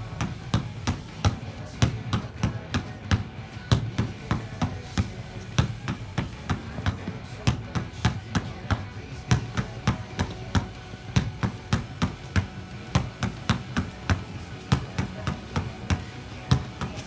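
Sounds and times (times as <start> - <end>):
basketball bouncing on concrete: 0.0 - 17.0.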